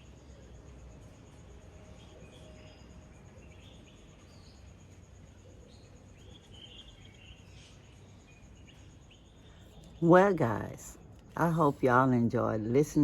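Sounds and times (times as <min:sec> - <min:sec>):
high pulsing insect trill: 0:00.0 - 0:13.0
birds chirping: 0:02.3 - 0:13.0.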